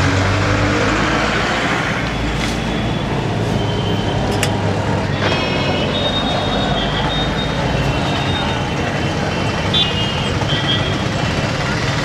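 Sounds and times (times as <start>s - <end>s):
street traffic din: 0.0s - 12.0s.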